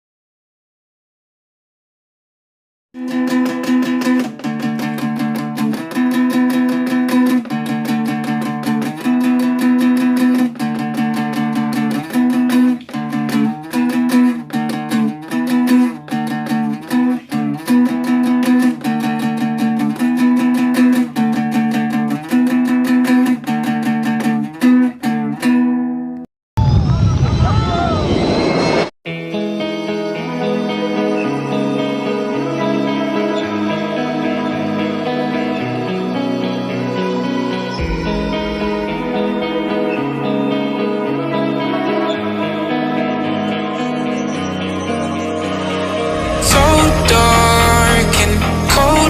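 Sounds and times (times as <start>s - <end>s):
plucked guitar music: 3.0s - 26.3s, 29.1s - 49.0s.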